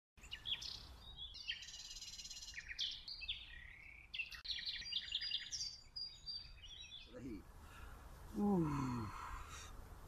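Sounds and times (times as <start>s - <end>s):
songbirds trilling and chirping: 0.2s - 10.0s.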